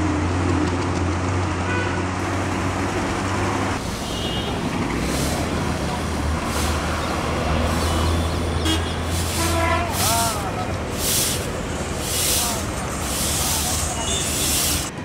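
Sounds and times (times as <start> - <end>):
brooms sweeping road: 0.0 - 15.0
road traffic rumble: 0.0 - 15.0.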